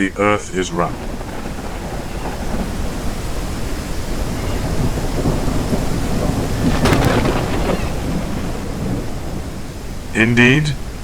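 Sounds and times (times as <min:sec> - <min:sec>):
low rumble of thunder: 0:00.0 - 0:11.0
rain: 0:00.0 - 0:11.0
sharp crack of thunder: 0:00.0 - 0:11.0.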